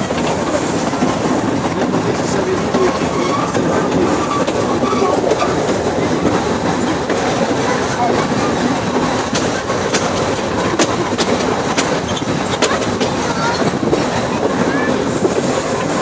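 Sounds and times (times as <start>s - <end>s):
train rumble and clatter: 0.0s - 16.0s.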